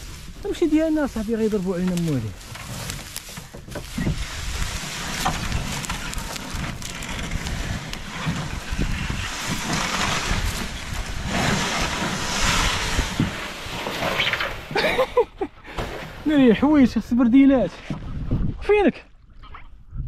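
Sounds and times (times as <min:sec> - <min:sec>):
wind buffeting microphone: 0:00.0 - 0:02.5, 0:03.6 - 0:14.8, 0:16.4 - 0:20.0
canoe scraping over sand: 0:00.0 - 0:15.0, 0:15.6 - 0:17.0.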